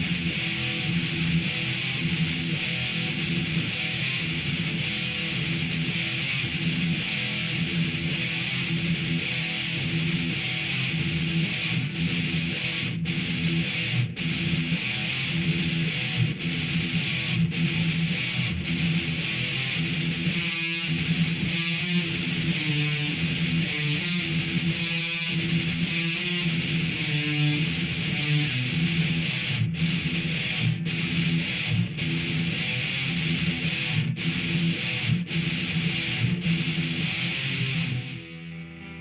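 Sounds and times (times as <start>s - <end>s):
distorted electric guitar metal riff: 0.0s - 39.0s.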